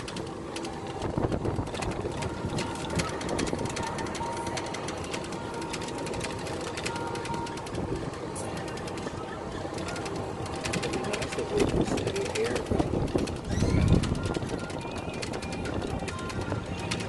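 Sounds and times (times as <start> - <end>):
fast dense clicking: 0.0 - 17.0
small vehicle running and rattling: 0.0 - 17.0.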